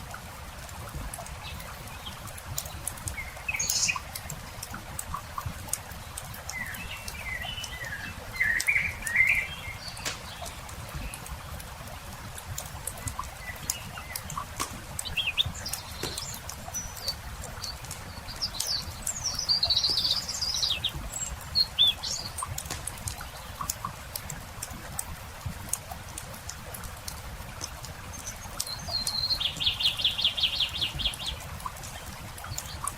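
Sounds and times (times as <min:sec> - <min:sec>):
campfire crackling and popping: 0:00.0 - 0:32.9
songbirds warbling: 0:01.3 - 0:11.6, 0:12.9 - 0:24.0, 0:27.9 - 0:32.9.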